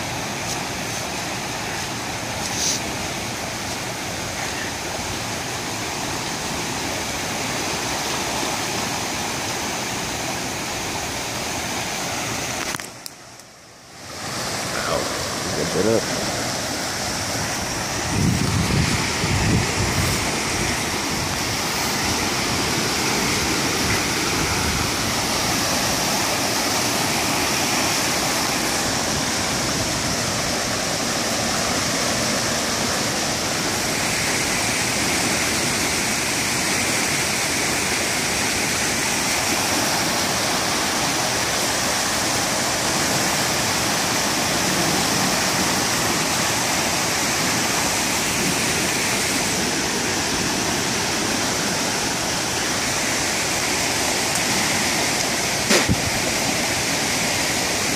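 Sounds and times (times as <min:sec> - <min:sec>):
floodwater rushing: 0:00.0 - 0:57.9.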